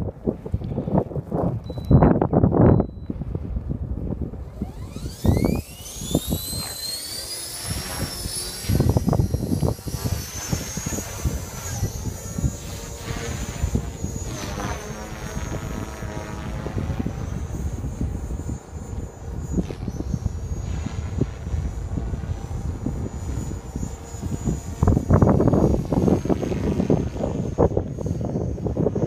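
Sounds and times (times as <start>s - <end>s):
helicopter motor and rotor whine: 0.0s - 29.0s
wind buffeting microphone: 0.0s - 29.0s.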